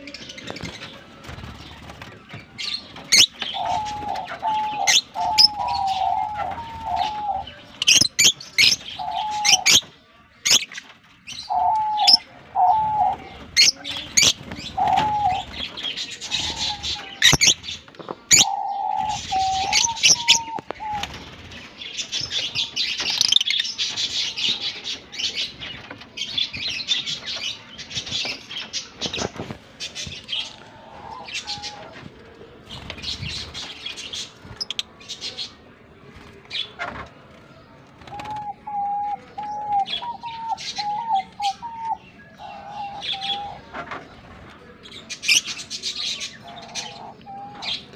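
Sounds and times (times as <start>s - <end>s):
lovebirds chattering: 0.0s - 35.6s, 37.6s - 47.9s.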